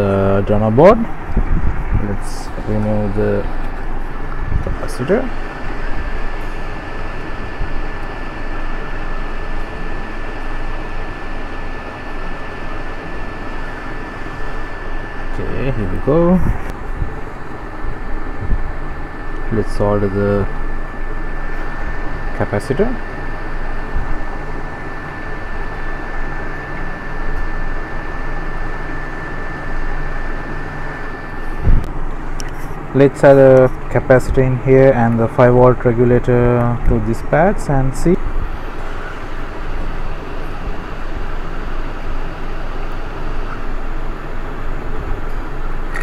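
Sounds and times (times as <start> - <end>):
hot-air station blowing with whine: 0.0 - 46.0.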